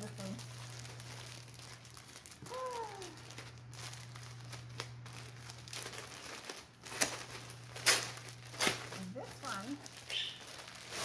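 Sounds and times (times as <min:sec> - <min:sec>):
low steady hum: 0:00.0 - 0:11.0
plastic wrapping crinkling: 0:00.0 - 0:11.0.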